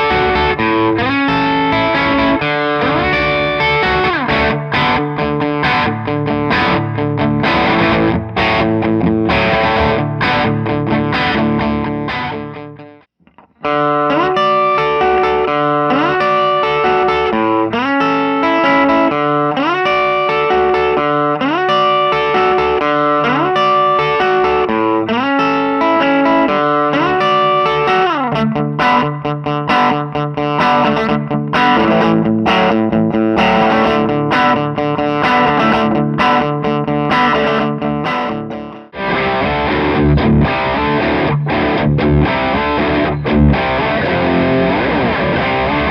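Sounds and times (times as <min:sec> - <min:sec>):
overdriven electric guitar riff: 0:00.0 - 0:45.9.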